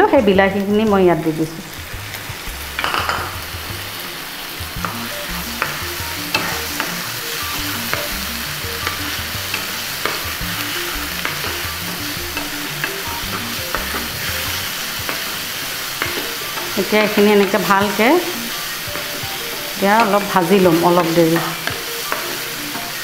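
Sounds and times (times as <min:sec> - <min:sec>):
onions sizzling in a frying pan: 0:00.0 - 0:23.0.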